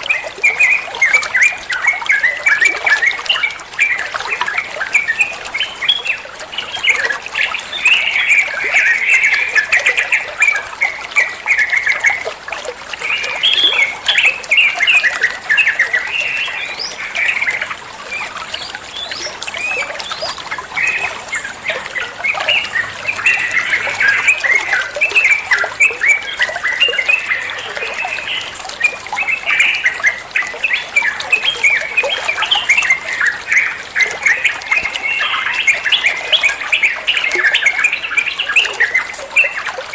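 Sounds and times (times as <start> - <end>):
bird singing bubbly chatter: 0.0 - 39.9.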